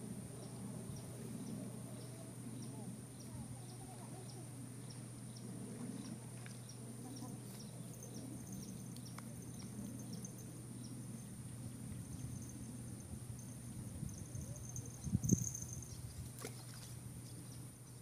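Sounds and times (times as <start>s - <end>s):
insect chirps: 0.0s - 18.0s
steady low hum: 0.0s - 18.0s.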